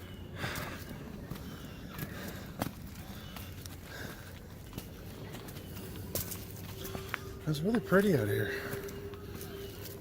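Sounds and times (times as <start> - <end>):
boots walking on dirt trail: 0.0 - 10.0.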